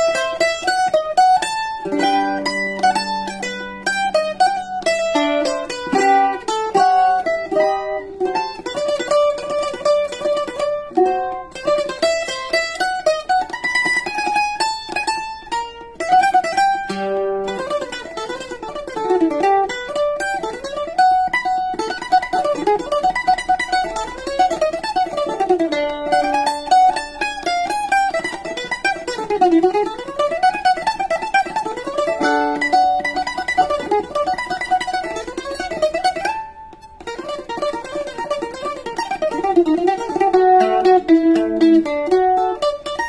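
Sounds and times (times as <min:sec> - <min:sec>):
mandolin playing waltz: 0:00.0 - 0:43.0.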